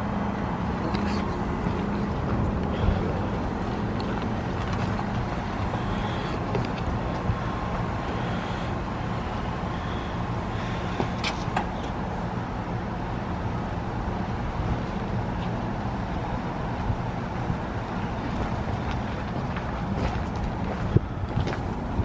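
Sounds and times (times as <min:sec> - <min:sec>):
continuous rushing noise: 0:00.0 - 0:22.0
heat pump low hum: 0:00.0 - 0:22.0.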